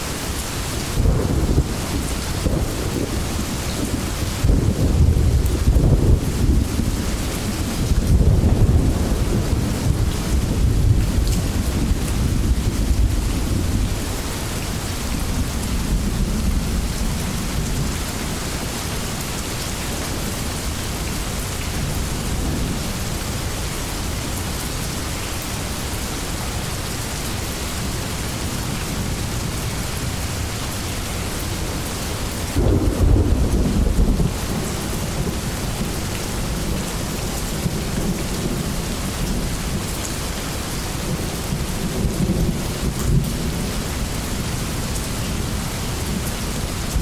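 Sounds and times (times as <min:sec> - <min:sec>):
heavy rain: 0:00.0 - 0:47.0
thunder rumbling: 0:00.1 - 0:19.3, 0:27.8 - 0:47.0.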